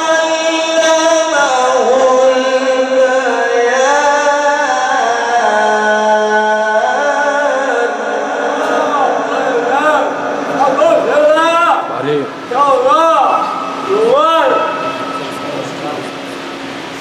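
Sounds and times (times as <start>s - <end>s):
man chanting melodically: 0.0s - 16.5s.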